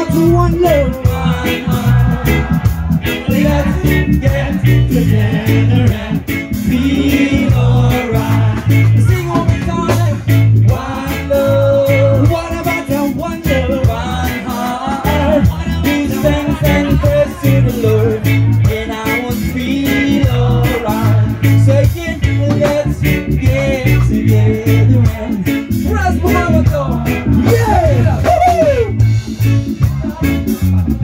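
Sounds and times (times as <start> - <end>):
person singing: 0.0 - 31.0
reggae band music: 0.0 - 31.0.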